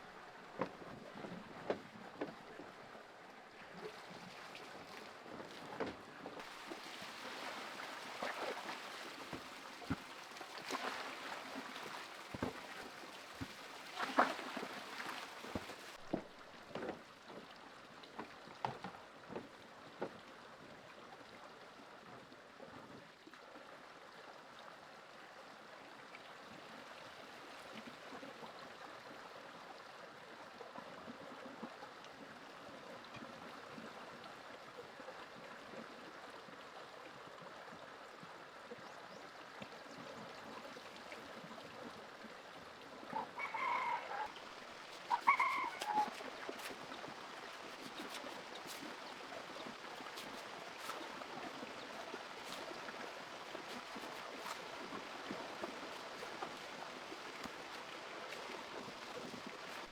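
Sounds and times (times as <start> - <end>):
running water: 0.0 - 59.9.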